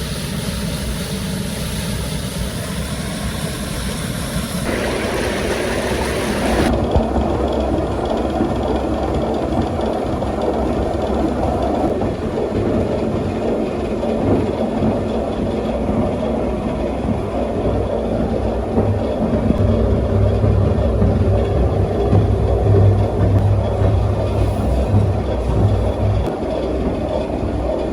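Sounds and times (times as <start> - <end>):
mill machinery rumbling: 3.3 - 27.9.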